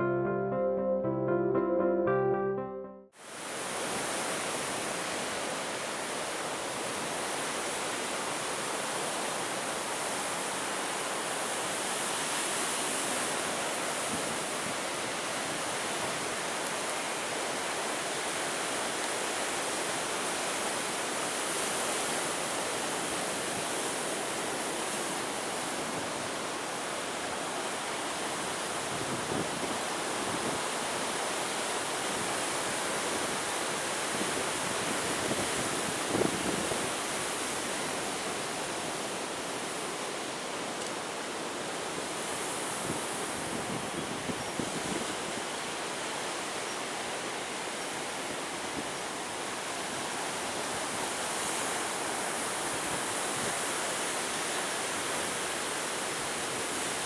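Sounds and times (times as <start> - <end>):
sea surf: 0.0 - 57.0
wind: 3.2 - 57.0.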